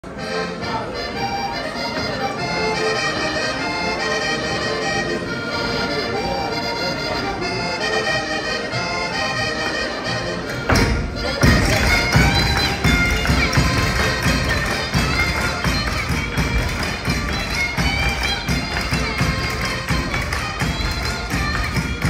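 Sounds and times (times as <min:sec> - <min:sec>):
accordion playing folk tune: 0:00.0 - 0:22.0.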